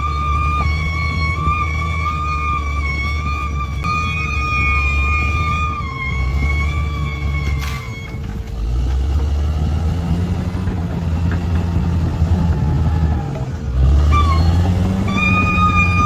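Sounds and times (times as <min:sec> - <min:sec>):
high steady squeal: 0:00.0 - 0:09.2, 0:10.4 - 0:16.0
bulldozer diesel engine running: 0:00.0 - 0:16.0.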